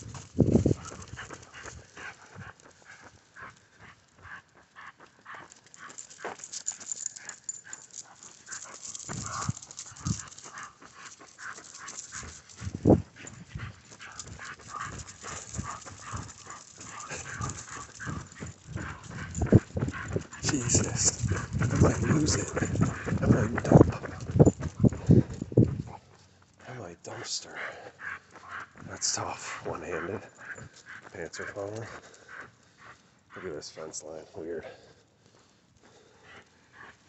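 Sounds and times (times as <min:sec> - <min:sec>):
dogs panting: 0:00.0 - 0:37.0.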